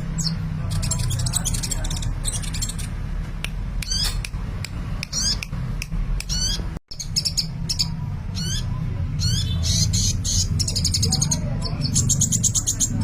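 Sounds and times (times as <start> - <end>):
bird chirping: 0.0 - 3.1, 3.8 - 13.0.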